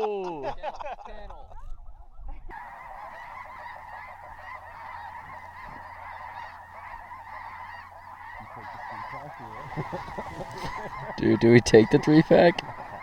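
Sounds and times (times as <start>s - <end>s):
flock of geese honking: 2.5s - 13.0s.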